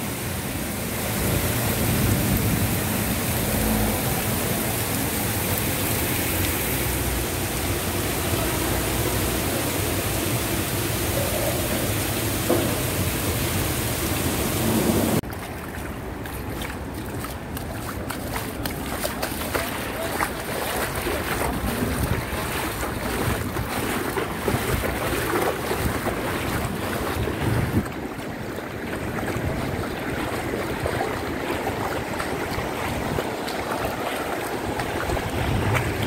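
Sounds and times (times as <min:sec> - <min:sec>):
heavy rain downpour: 0:00.0 - 0:15.2, 0:19.4 - 0:36.0
floodwater rushing: 0:00.0 - 0:36.0.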